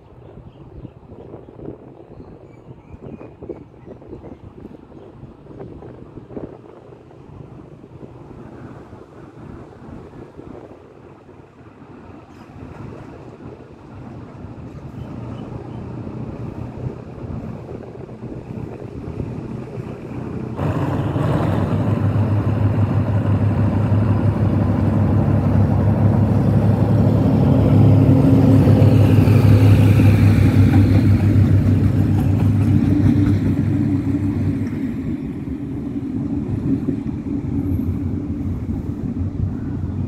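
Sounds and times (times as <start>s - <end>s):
diesel locomotive engine drone: 3.7s - 40.0s.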